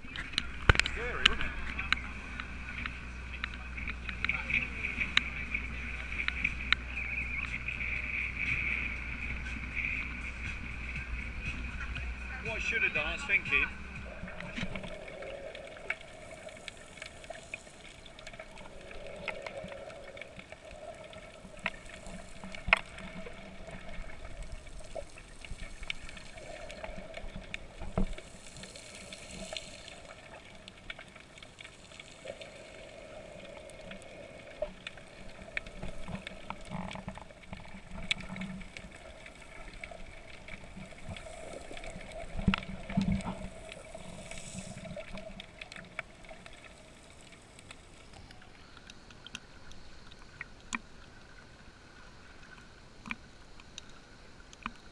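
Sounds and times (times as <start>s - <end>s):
steady hum: 0.0s - 50.4s
muffled underwater wash: 0.0s - 54.9s.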